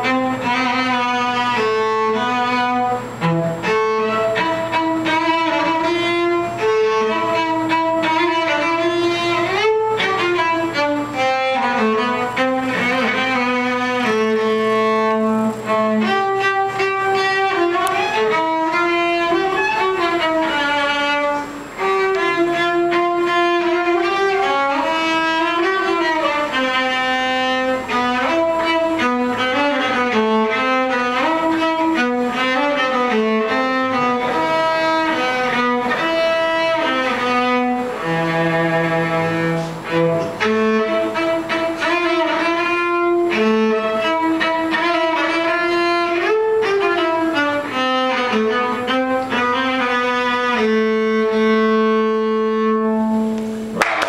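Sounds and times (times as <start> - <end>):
bowed solo cello melody: 0.0 - 54.0.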